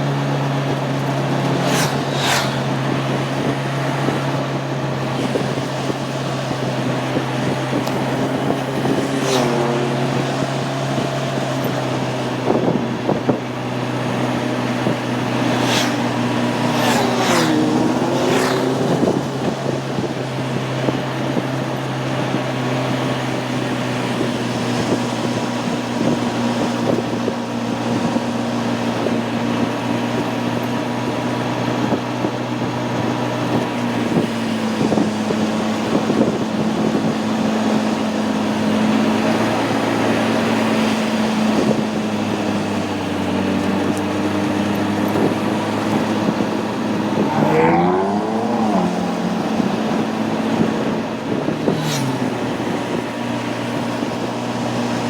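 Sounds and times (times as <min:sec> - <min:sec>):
wind rush: 0:00.0 - 0:31.0, 0:31.8 - 0:55.0
motorcycle engine running: 0:00.0 - 0:55.0.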